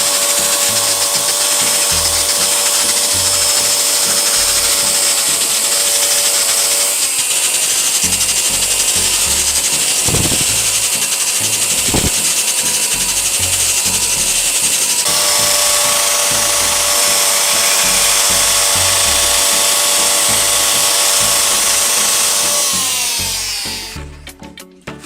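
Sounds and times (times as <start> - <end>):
background music: 0.0 - 6.9, 7.7 - 25.0
electric power tool running: 0.0 - 24.1.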